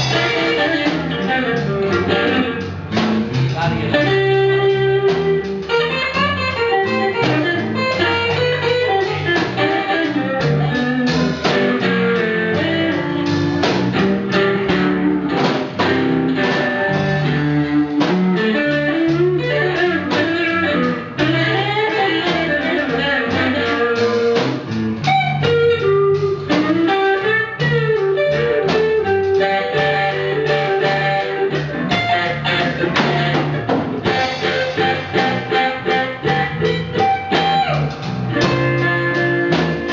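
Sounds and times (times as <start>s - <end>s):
blues guitar music with beat: 0.0s - 39.9s.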